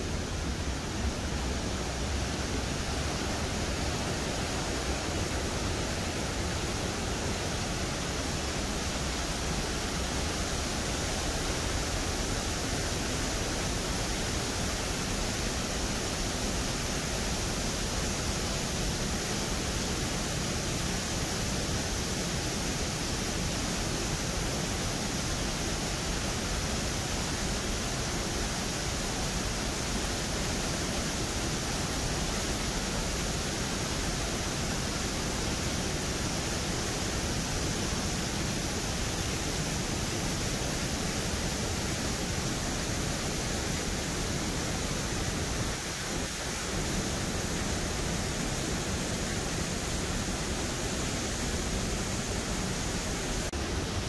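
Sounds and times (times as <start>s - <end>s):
waterfall rushing over rock: 0.0s - 54.0s.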